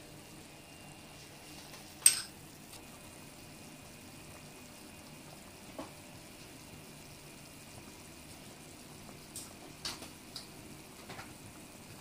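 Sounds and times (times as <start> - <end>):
broth bubbling in a pan: 0.0 - 12.0.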